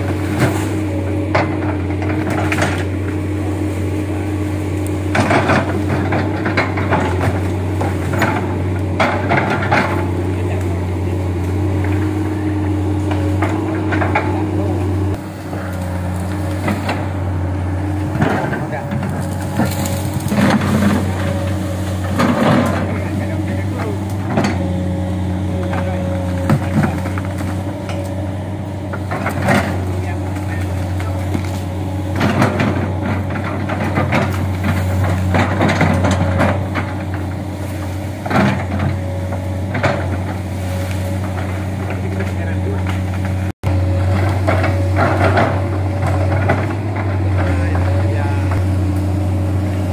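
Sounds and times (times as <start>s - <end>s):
brush crackling and snapping: 0.0s - 49.9s
excavator diesel engine running: 0.0s - 49.9s
branches breaking: 9.8s - 49.9s.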